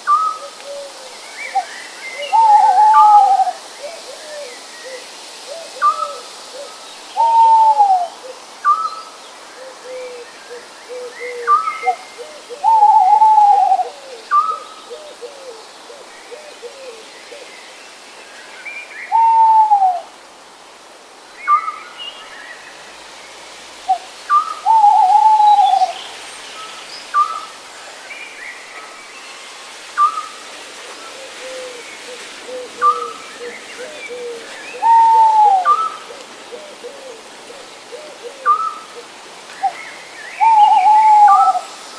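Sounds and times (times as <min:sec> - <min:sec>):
faint steady hiss: 0:00.0 - 0:41.9.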